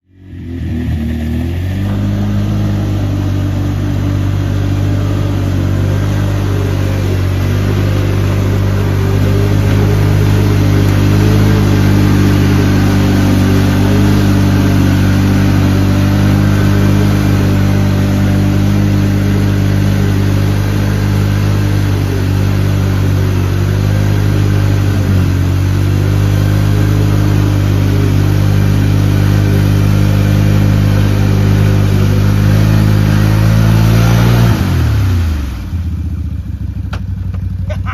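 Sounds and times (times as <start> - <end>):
vehicle engine running: 0.0 - 37.9.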